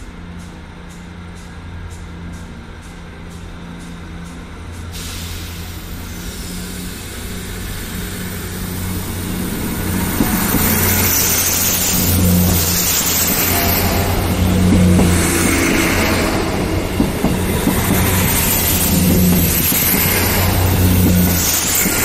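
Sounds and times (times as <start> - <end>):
diesel train engines droning: 0.0 - 22.0
wheel and rail noise: 0.0 - 22.0.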